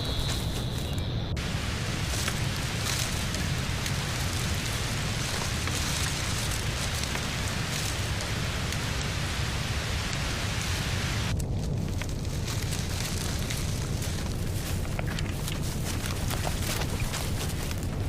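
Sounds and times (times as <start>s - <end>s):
low rumble: 0.0s - 18.0s
rain falling in forest: 1.4s - 18.0s.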